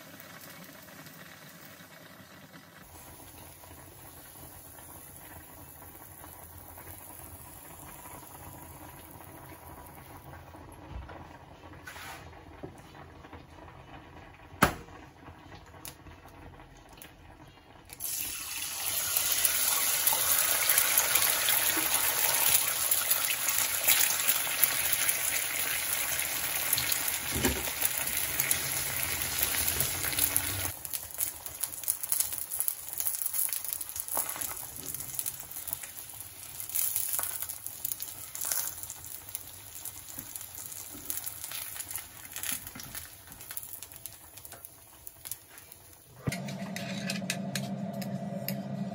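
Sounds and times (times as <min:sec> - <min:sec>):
egg sizzling in hot oil: 0:00.0 - 0:10.8, 0:17.8 - 0:48.5.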